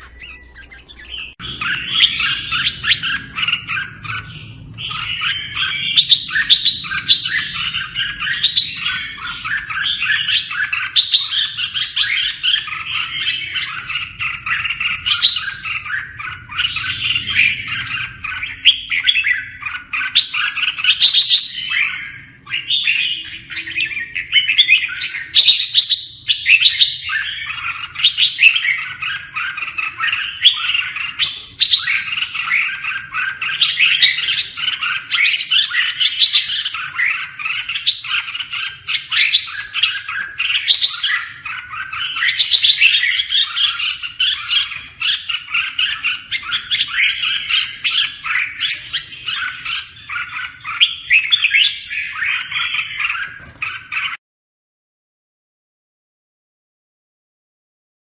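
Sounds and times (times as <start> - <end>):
birds chirping: 0.0 - 54.2.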